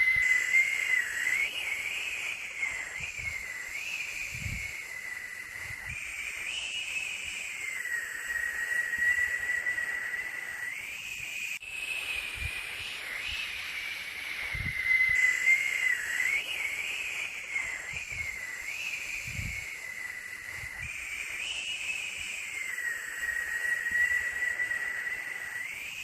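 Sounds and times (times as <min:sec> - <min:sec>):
high whistling whine: 0:00.0 - 0:26.0
white-noise hiss: 0:00.0 - 0:26.0.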